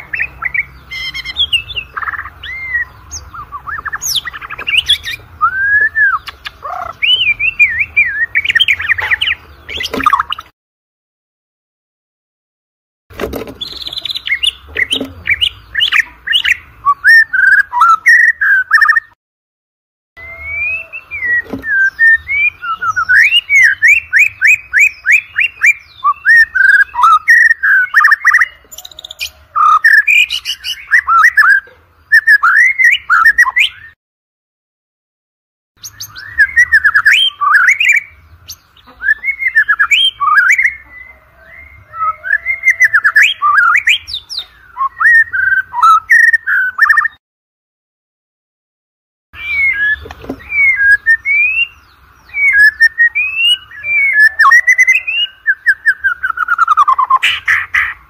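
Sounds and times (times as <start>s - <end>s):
bird singing whistles and trills: 0.0s - 10.5s, 13.5s - 19.2s, 20.2s - 34.0s, 35.8s - 47.2s, 49.4s - 58.0s.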